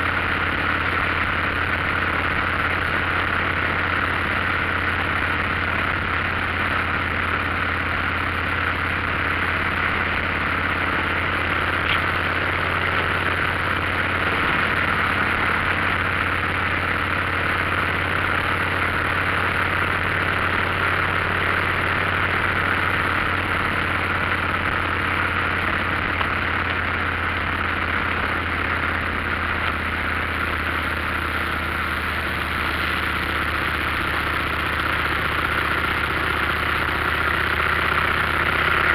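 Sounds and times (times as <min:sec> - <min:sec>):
motorcycle engine hum: 0:00.0 - 0:38.9
road noise rush: 0:00.0 - 0:38.9.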